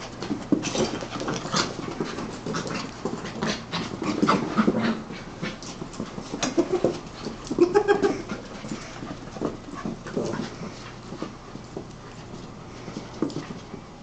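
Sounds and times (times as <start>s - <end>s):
puppy noises and scuffles: 0.0s - 14.0s
puppies panting: 0.1s - 13.6s.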